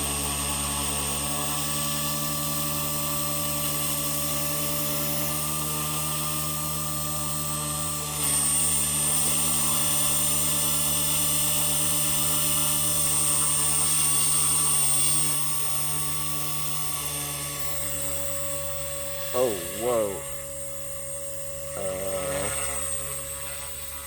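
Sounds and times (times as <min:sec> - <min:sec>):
rc helicopter whine: 0:00.0 - 0:24.0.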